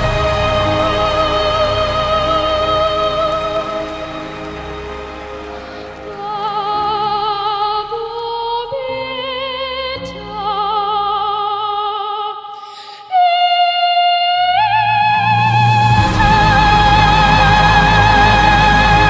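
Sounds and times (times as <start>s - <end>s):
girl singing opera: 0.0s - 4.4s, 6.0s - 19.0s.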